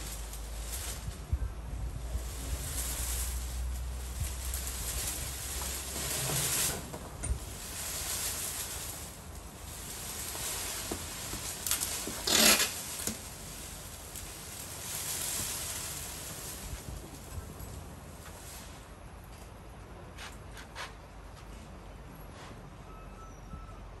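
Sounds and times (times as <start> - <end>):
dry grass thatch rustling: 0.0 - 19.3.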